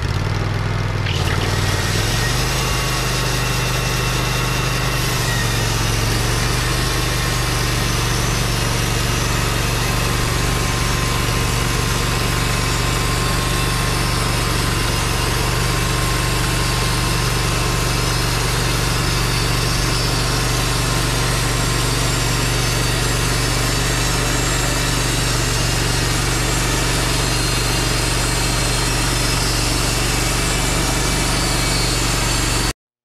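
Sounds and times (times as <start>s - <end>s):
sawmill engine running under load: 0.0s - 32.7s
band blade sawing through wood: 1.1s - 32.7s.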